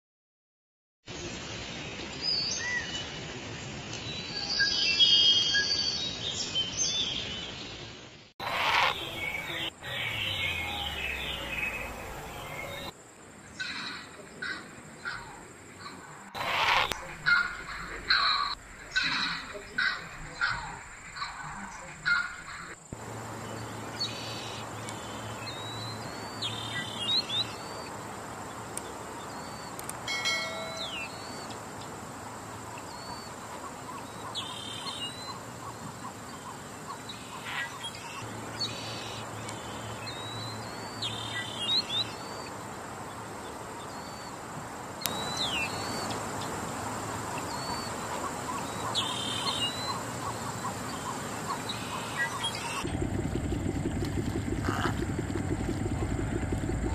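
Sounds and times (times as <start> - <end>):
outdoor background hiss: 1.1 - 54.0
birds chirping: 1.2 - 56.9.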